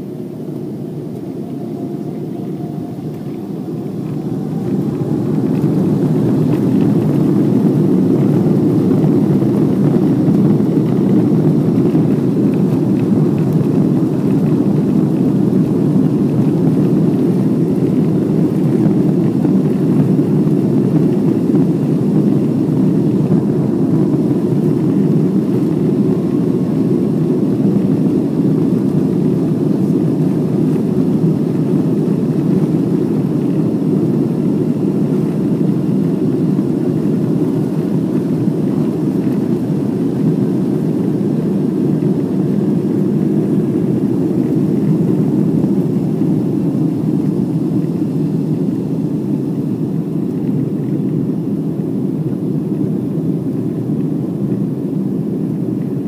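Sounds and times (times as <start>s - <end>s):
aircraft cabin rumble: 0.0s - 56.0s.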